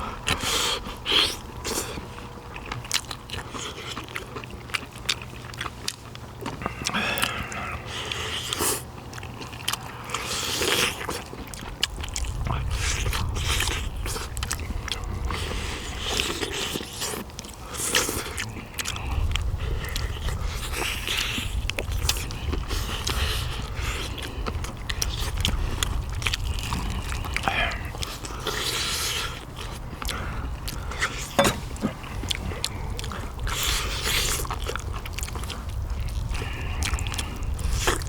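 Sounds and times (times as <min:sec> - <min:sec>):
chewing meat off bones: 0:00.0 - 0:38.0.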